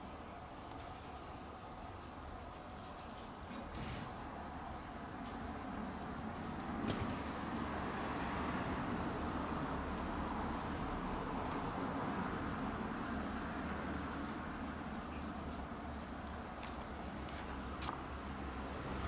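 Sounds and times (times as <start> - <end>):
thin steady high tone: 0.0 - 4.5, 5.8 - 9.4, 11.1 - 19.0.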